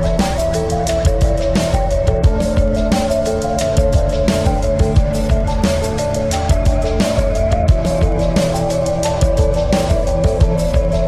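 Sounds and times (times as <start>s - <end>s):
drum beat: 0.0s - 11.0s
held synth notes: 0.0s - 11.0s.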